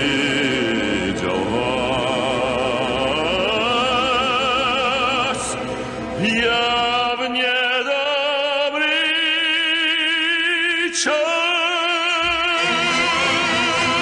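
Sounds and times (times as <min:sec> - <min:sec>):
musical accompaniment: 0:00.0 - 0:14.0
operatic singing with vibrato: 0:00.0 - 0:14.0.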